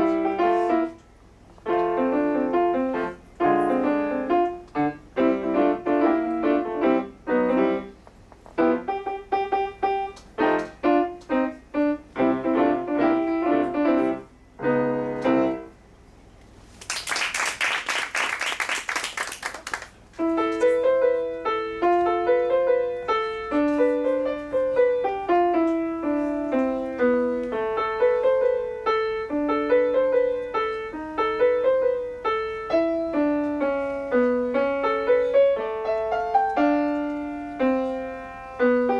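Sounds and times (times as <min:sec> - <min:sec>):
solo piano: 0:00.0 - 0:16.0, 0:20.2 - 0:38.9.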